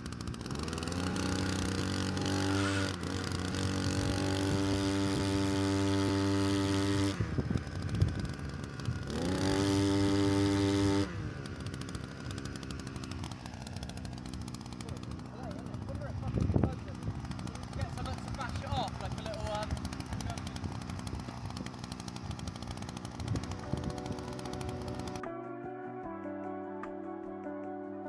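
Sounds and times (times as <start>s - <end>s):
small petrol engine revving: 0.0s - 25.3s.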